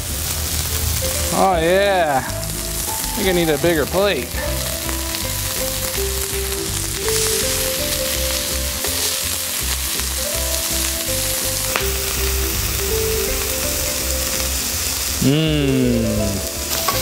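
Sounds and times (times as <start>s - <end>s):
background music with bass beat: 0.0s - 17.0s
hamburger patties sizzling: 0.0s - 17.0s.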